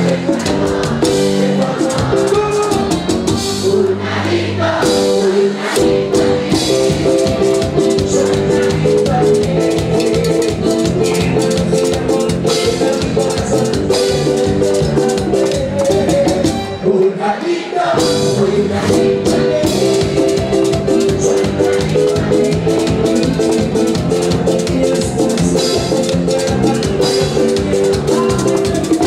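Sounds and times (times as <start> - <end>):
drums and shaker beat: 0.0 - 3.8, 4.8 - 16.8, 18.0 - 29.0
sustained keyboard chords: 0.0 - 17.0, 18.0 - 29.0
live latin dance band: 0.0 - 29.0.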